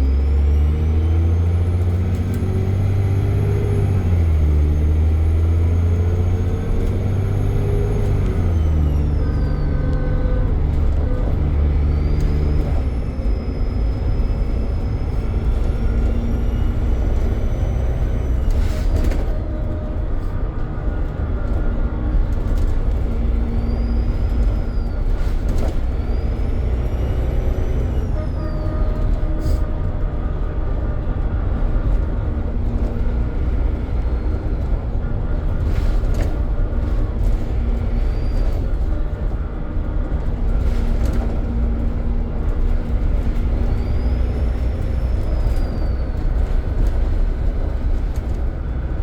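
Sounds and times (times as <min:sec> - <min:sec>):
bus engine running: 0:00.0 - 0:49.0.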